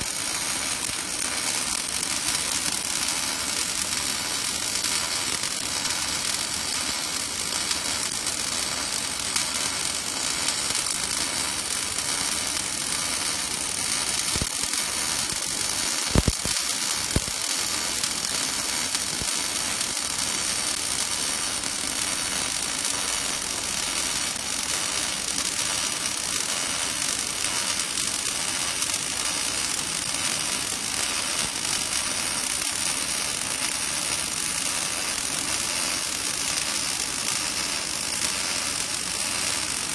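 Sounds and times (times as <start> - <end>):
welding hiss: 0.0 - 39.9.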